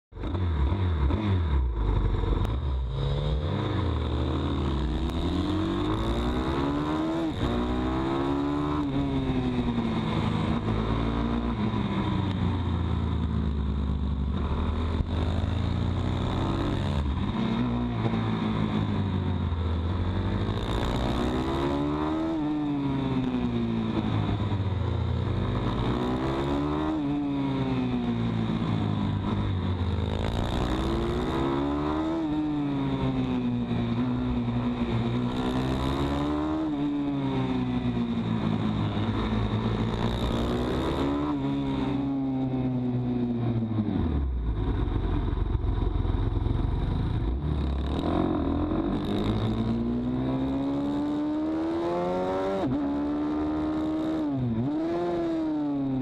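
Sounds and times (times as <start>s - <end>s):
motorbike engine revving: 0.2s - 12.0s, 14.4s - 56.0s.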